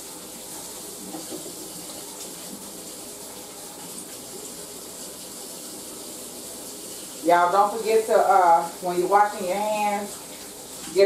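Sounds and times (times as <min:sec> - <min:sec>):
tap running while hands washed: 0:00.0 - 0:11.0.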